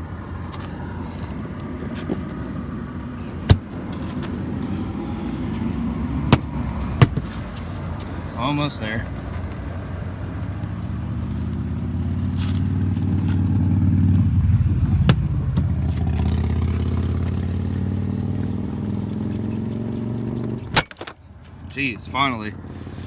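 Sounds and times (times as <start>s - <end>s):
vehicle passing by: 0.0s - 20.8s.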